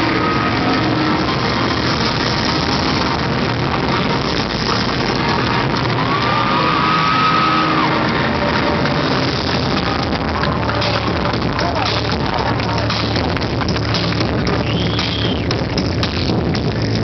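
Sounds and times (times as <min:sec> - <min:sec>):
electronic music: 0:00.0 - 0:17.0.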